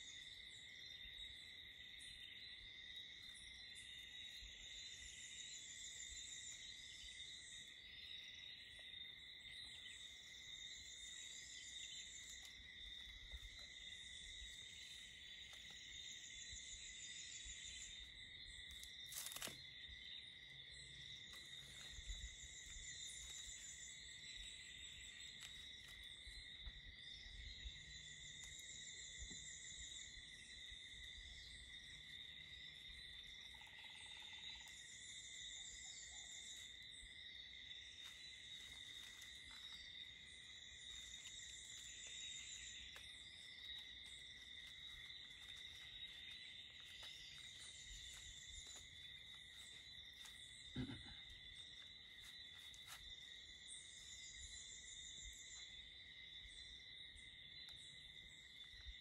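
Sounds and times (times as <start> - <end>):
buzzy insect call: 0.0 - 59.0
high-pitched insect trill: 0.0 - 59.0.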